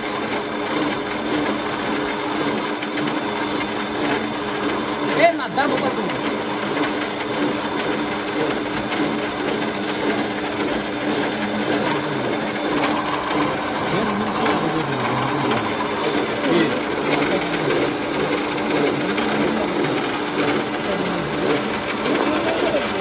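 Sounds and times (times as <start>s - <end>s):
lathe motor humming: 0.0s - 23.0s.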